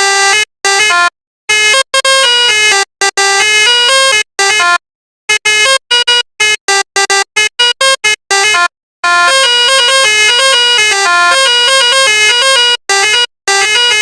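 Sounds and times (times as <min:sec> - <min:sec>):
multi-tone bus horn tune: 0:00.0 - 0:14.0.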